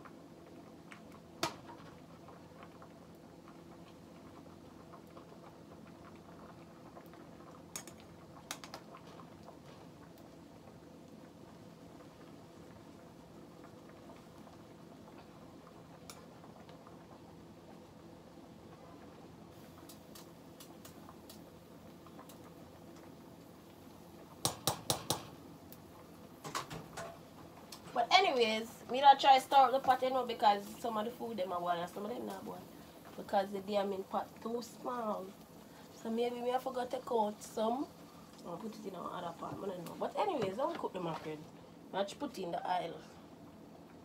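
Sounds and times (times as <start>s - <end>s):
food bubbling in a pot: 0.0s - 44.0s
low steady hum: 0.0s - 44.0s.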